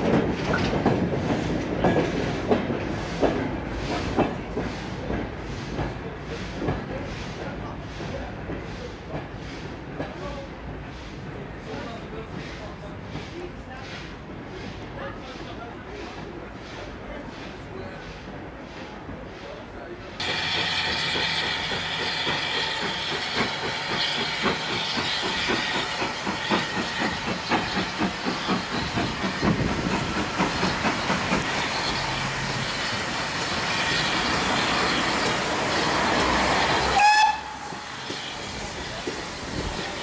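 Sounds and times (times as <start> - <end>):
steam locomotive exhaust beats: 0.0 - 40.0.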